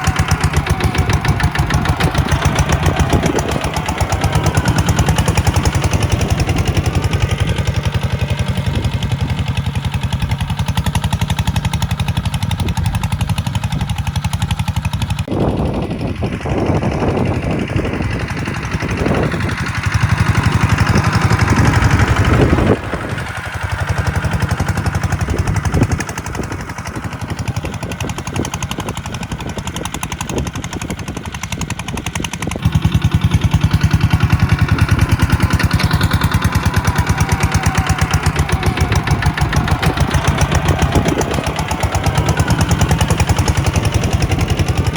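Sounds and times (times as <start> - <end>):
tractor diesel engine chugging: 0.0 - 44.9.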